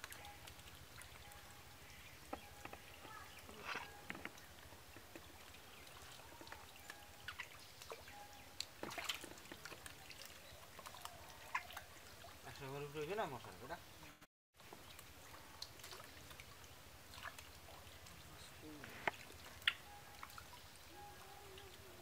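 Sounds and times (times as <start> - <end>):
water splashing and sloshing: 0.0 - 14.0, 14.6 - 22.0.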